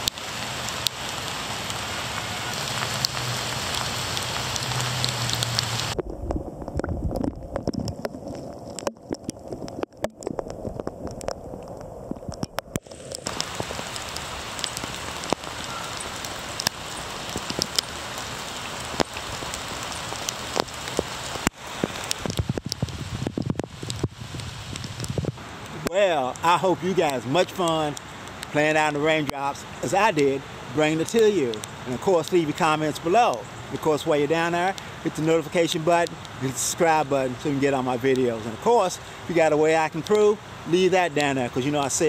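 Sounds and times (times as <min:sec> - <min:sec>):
rain hissing: 0:00.0 - 0:42.0
raindrops tapping: 0:00.0 - 0:42.0.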